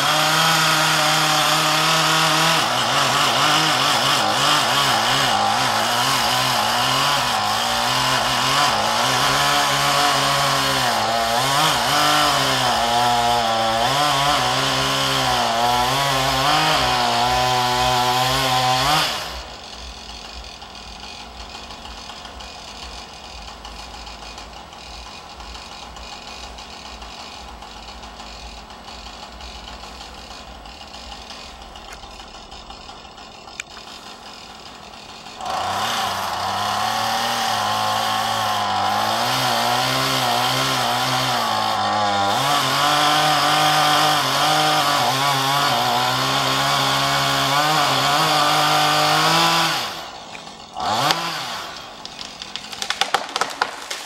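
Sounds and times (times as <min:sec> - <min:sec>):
chainsaw cutting wood: 0:00.0 - 0:54.0
chainsaw idling: 0:00.0 - 0:54.0.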